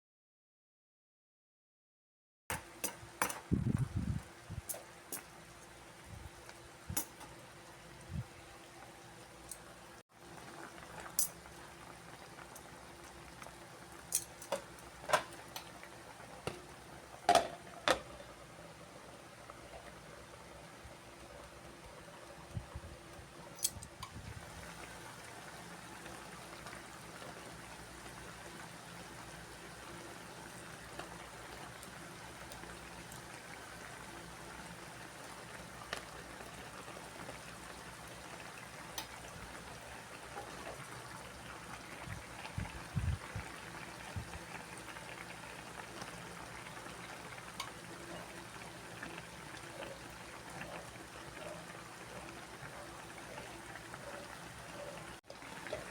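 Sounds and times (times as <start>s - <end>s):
stew bubbling in a pot: 3.3s - 55.9s.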